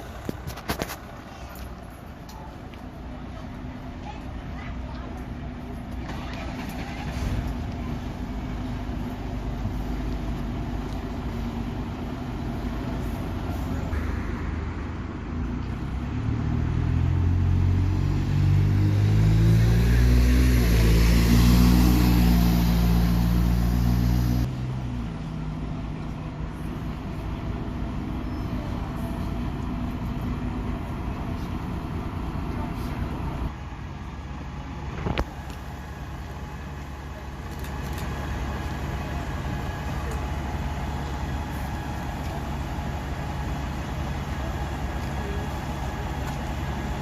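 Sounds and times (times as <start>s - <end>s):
bus diesel engine pulling away: 0.0s - 47.0s.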